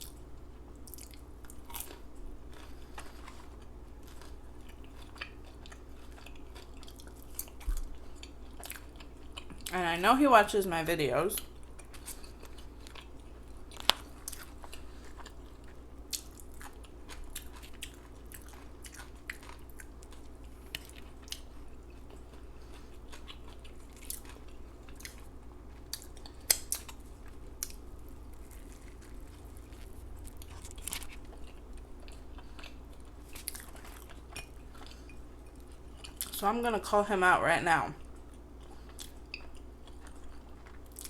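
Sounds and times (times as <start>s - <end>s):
chewing and lip smacking: 0.0s - 9.7s, 11.4s - 36.4s, 38.0s - 41.0s.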